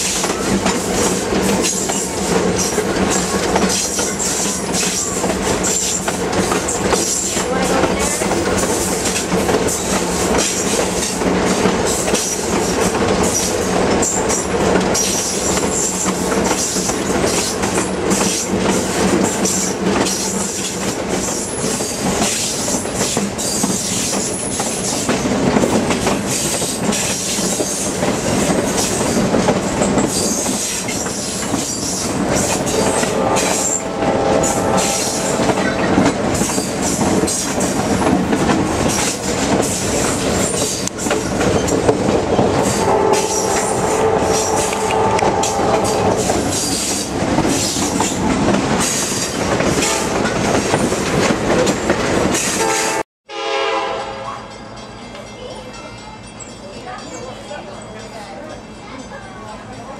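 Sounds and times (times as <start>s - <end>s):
train wheels clattering over rails: 0.0s - 52.7s.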